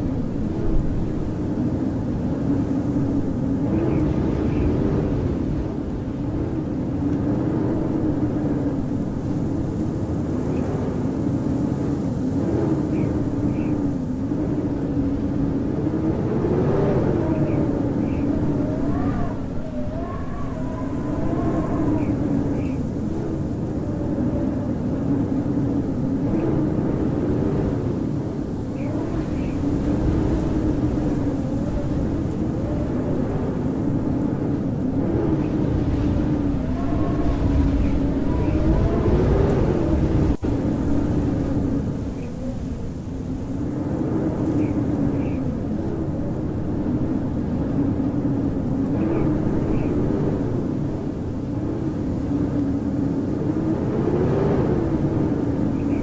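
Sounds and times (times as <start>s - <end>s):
howling wind: 0.0s - 56.0s.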